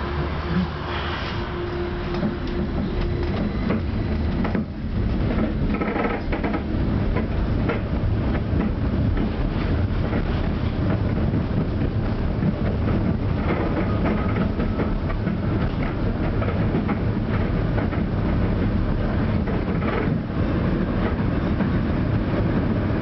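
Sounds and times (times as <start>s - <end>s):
tram rattles and clicks: 0.0s - 23.0s
tram wheels rumbling on rails: 0.0s - 23.0s.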